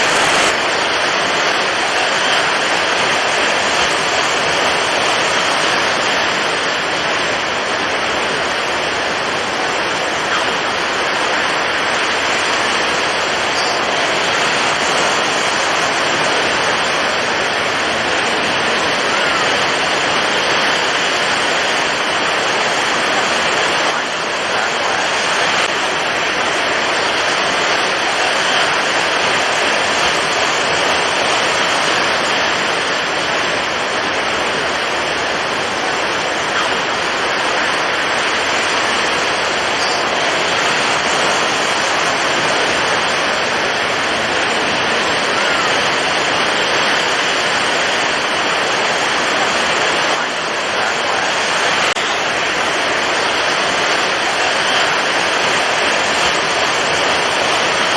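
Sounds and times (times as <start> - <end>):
heavy surf: 0.0 - 57.9
strong wind: 0.0 - 57.9.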